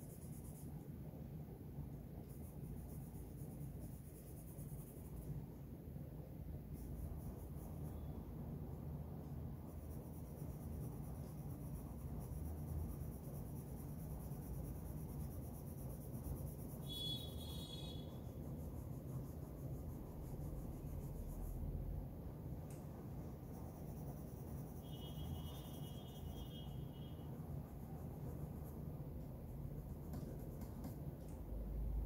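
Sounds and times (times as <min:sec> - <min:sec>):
pencil scratching on paper: 0:00.0 - 0:00.9, 0:02.2 - 0:05.4, 0:06.6 - 0:08.1, 0:09.6 - 0:21.9, 0:23.1 - 0:31.1.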